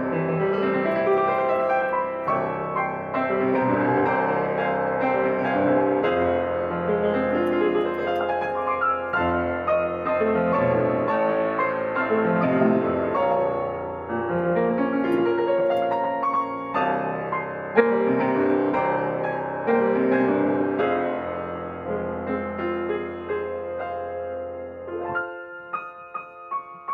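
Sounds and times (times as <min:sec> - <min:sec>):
slow ambient piano piece: 0:00.0 - 0:26.9.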